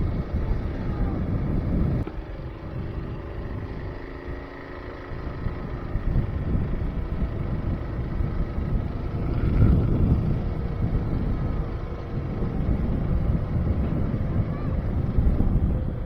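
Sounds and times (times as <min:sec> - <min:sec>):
mini bike engine running: 0:00.0 - 0:16.0
wind rumble on microphone: 0:00.0 - 0:16.0.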